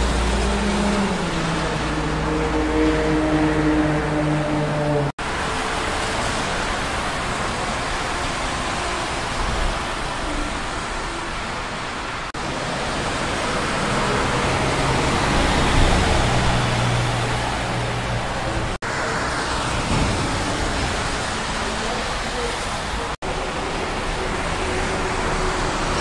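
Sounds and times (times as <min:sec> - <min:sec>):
highway traffic: 0:00.0 - 0:26.0
truck engine drone: 0:00.0 - 0:26.0
tyres hissing on wet road: 0:00.0 - 0:26.0.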